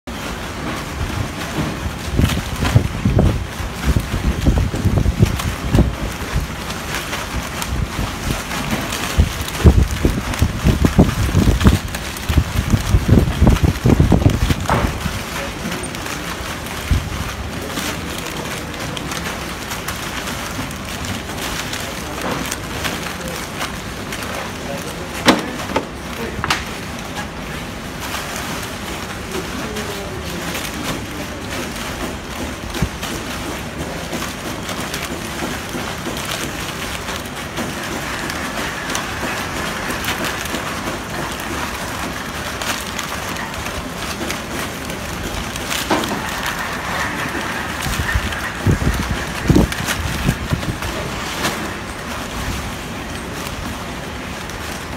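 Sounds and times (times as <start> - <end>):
plastic bags rustling: 0.1 - 54.9.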